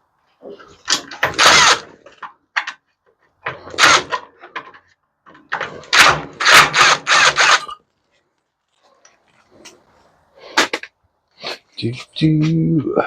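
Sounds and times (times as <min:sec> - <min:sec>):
scrap parts clattering: 0:00.4 - 0:11.7.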